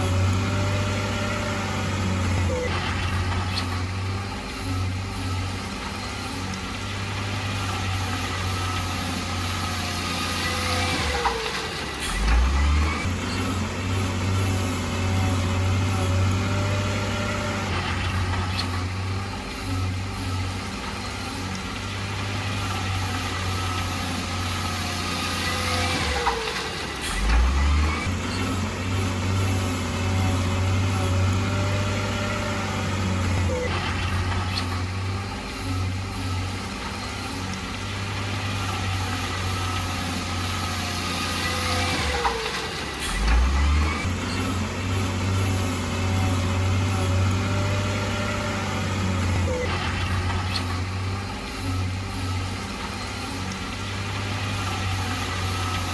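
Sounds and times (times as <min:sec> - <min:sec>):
diesel machinery engine drone: 0:00.0 - 0:55.9
gliding mechanical whines: 0:00.0 - 0:55.9.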